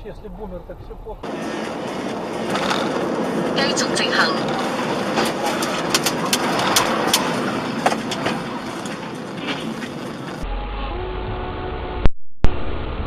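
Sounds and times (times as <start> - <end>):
vehicle noise: 0.0 - 13.0
low hum: 0.2 - 13.0.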